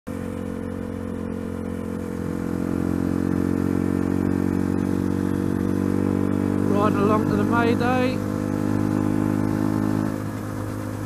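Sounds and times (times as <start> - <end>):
motorcycle engine running: 0.1 - 11.0
road and wind noise: 0.1 - 11.0.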